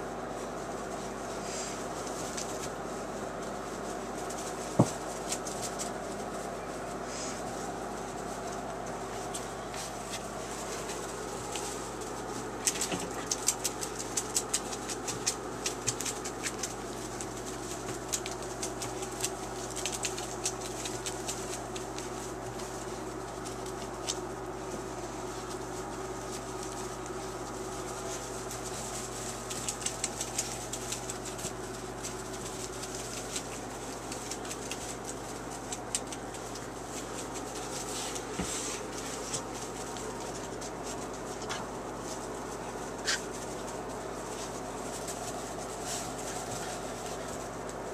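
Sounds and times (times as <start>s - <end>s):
puppies scrabbling in wood shavings: 0.0s - 47.9s
steady background hum: 0.0s - 47.9s.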